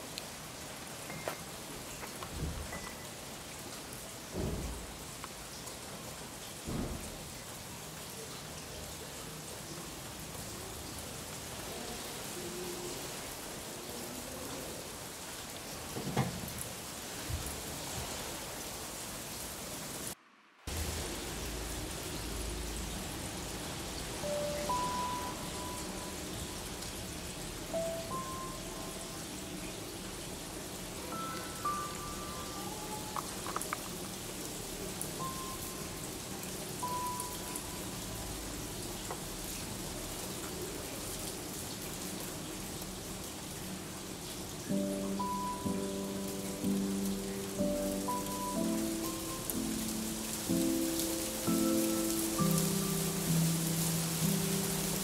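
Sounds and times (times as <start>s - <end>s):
rain falling: 0.0s - 55.0s
steady outdoor hiss: 0.0s - 55.0s.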